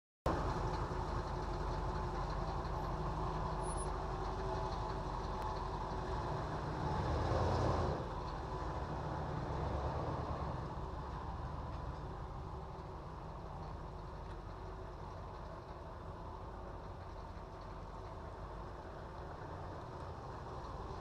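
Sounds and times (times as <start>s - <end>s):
motorhome engine running: 0.3s - 21.0s.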